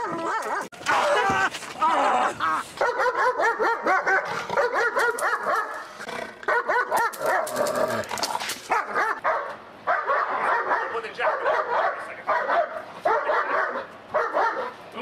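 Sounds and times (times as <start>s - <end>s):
dog barking aggressively: 2.8s - 14.8s.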